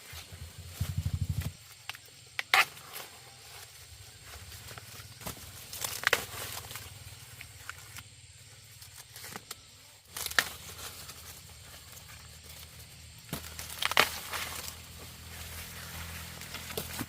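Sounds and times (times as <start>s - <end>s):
dry plants rustling and tearing: 2.4s - 8.1s, 8.7s - 17.0s.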